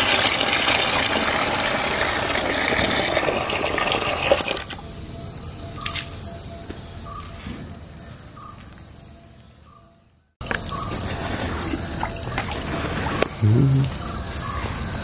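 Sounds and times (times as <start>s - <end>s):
insects trilling: 1.0s - 15.0s.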